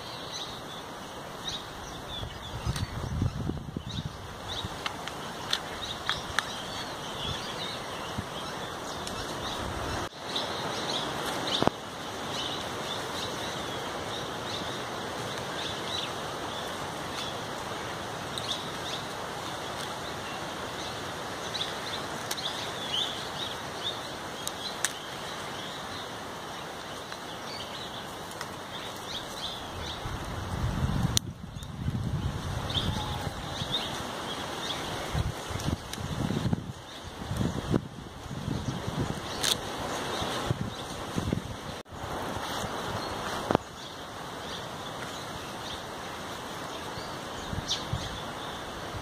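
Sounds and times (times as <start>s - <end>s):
small birds chirping: 0.0s - 49.0s
woodland background hiss: 0.0s - 49.0s.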